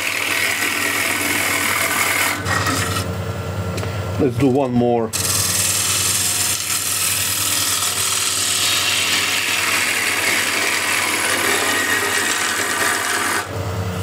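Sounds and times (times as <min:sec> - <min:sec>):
lathe motor hum: 0:00.0 - 0:03.1, 0:05.1 - 0:14.0.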